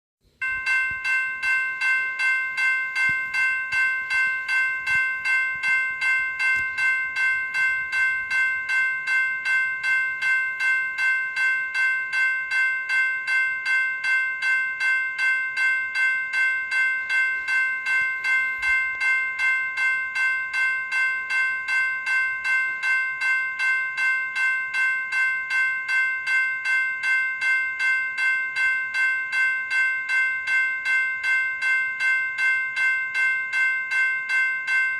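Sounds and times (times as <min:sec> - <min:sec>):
electronic bell ringing: 0:00.3 - 0:34.9.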